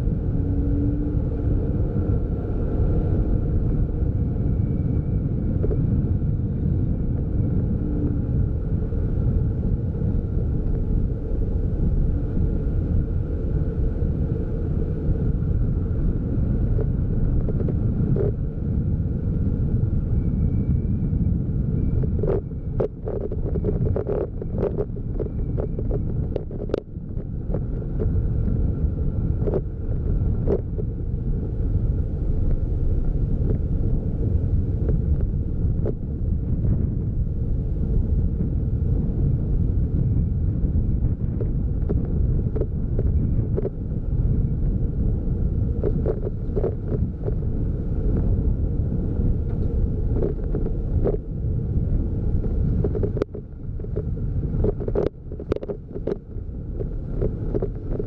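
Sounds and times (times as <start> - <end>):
vehicle driving rumble: 0.0 - 58.0
wind buffeting microphone: 0.0 - 58.0.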